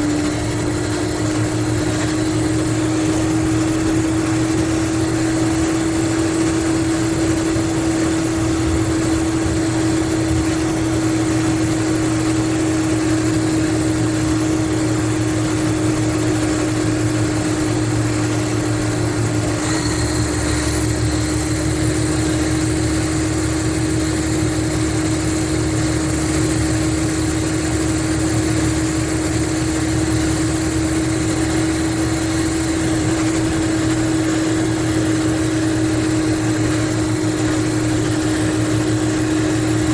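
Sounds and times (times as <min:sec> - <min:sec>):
diesel coach engine running: 0:00.0 - 0:39.9.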